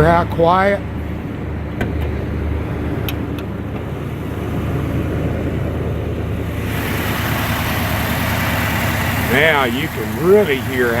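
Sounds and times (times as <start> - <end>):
car engine idling: 0.8 - 11.0.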